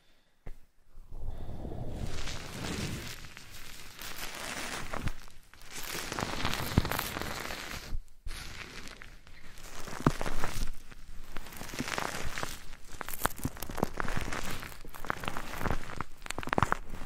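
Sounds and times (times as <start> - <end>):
rustling and crackling on microphone: 1.3 - 17.0.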